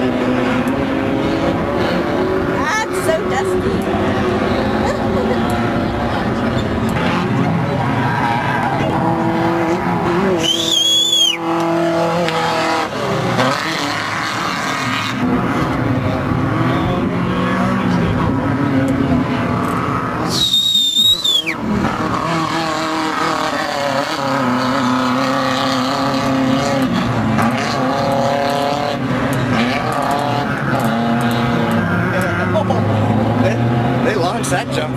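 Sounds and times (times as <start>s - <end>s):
race buggy engines revving: 0.0s - 34.9s.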